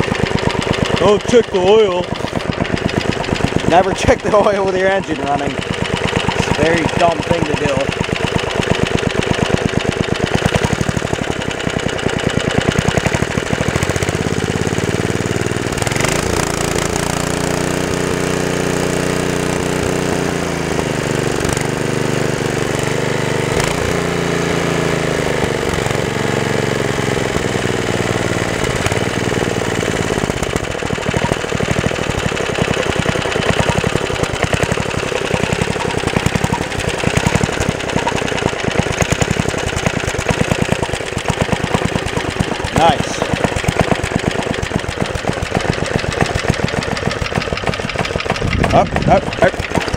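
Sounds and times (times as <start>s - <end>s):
small gasoline engine running: 0.0s - 49.9s.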